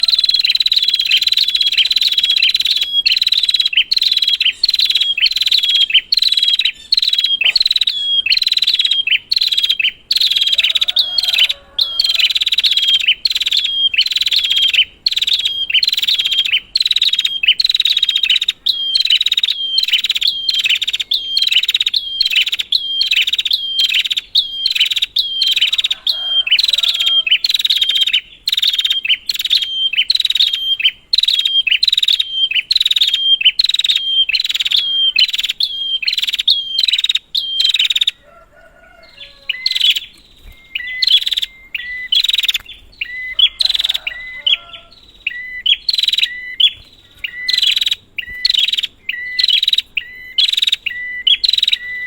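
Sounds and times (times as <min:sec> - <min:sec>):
bird chirping rapidly: 0:00.0 - 0:52.0.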